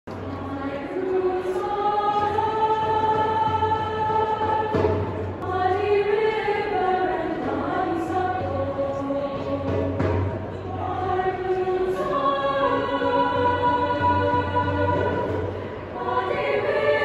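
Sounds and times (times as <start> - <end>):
choir singing held chords: 0.1 - 17.0.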